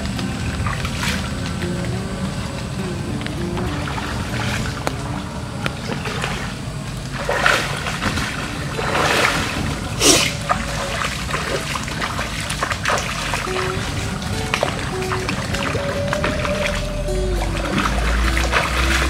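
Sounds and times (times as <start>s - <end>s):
flowing river water: 0.0s - 19.0s
water splashing: 0.0s - 19.0s.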